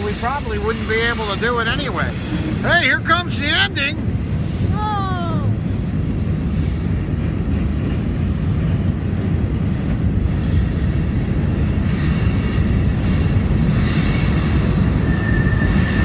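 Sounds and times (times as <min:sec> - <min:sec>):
freight train wheels clattering: 0:00.0 - 0:04.8, 0:05.6 - 0:16.0.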